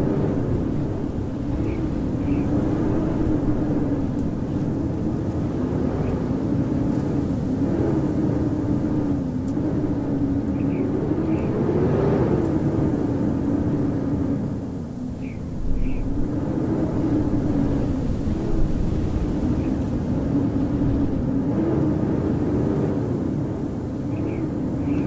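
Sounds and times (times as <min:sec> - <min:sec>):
wind howling: 0:00.0 - 0:25.0.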